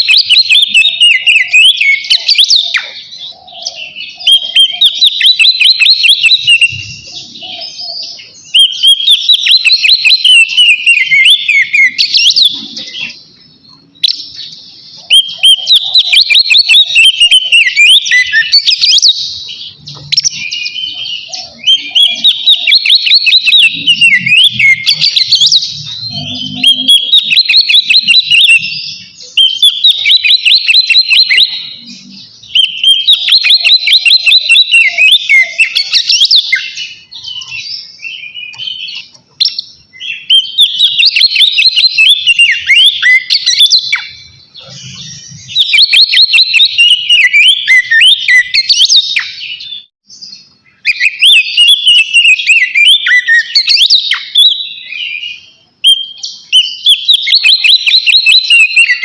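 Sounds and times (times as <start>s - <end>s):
magpie-robin singing whistled song: 0.0s - 59.0s.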